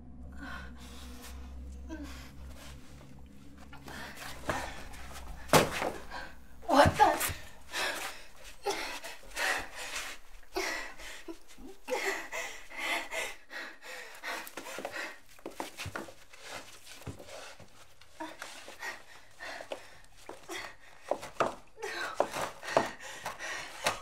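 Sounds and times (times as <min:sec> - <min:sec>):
woman panting: 0:00.3 - 0:24.0.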